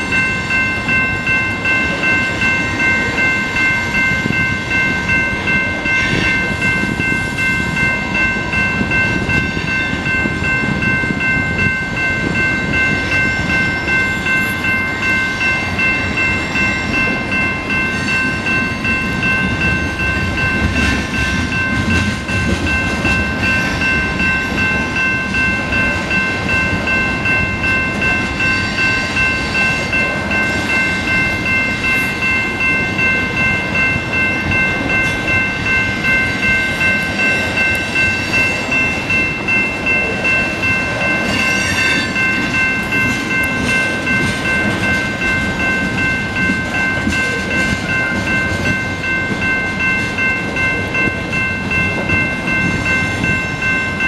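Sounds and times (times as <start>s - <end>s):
crossing warning bell ringing: 0.0s - 54.0s
freight train rolling: 0.0s - 54.0s
wheels clattering on rail: 0.0s - 54.0s.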